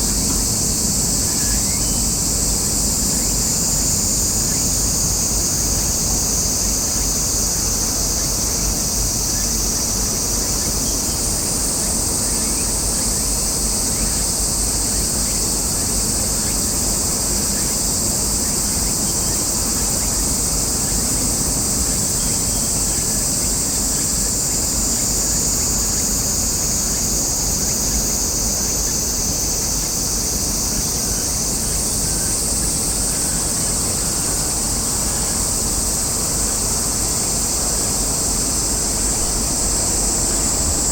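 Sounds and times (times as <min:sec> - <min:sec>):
cicadas buzzing: 0:00.0 - 0:40.9.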